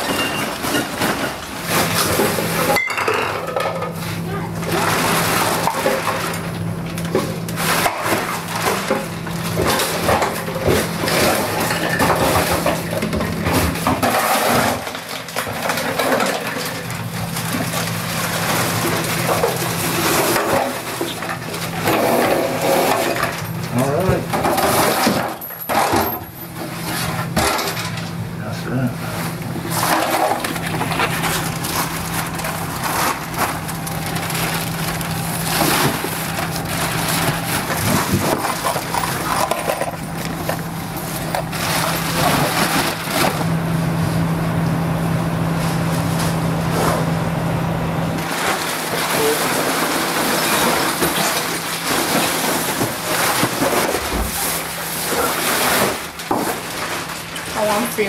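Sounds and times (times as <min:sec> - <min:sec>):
debris clattering into bags: 0:00.0 - 0:44.0, 0:48.2 - 0:58.0
steady low hum: 0:00.6 - 0:58.0
plastic garbage bags rustling: 0:03.9 - 0:27.5, 0:28.7 - 0:44.3, 0:48.2 - 0:58.0.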